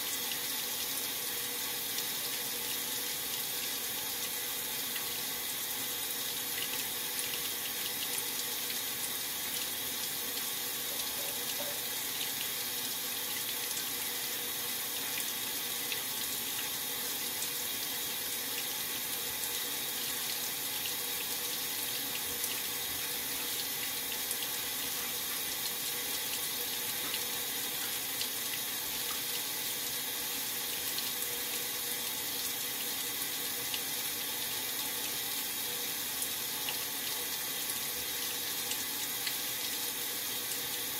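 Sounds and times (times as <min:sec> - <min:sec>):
water rushing into washer tub: 0:00.0 - 0:40.9.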